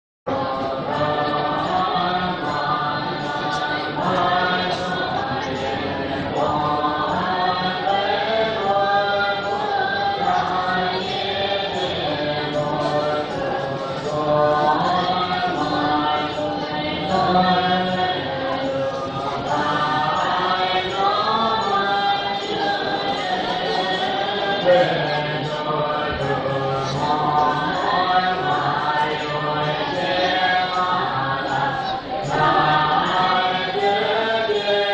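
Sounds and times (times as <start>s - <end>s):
monks chanting: 0.3s - 34.9s.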